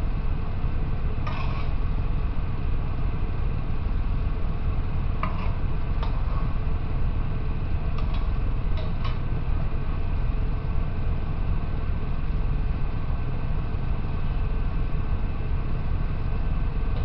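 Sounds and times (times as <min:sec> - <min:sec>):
low kitchen rumble: 0:00.0 - 0:17.0.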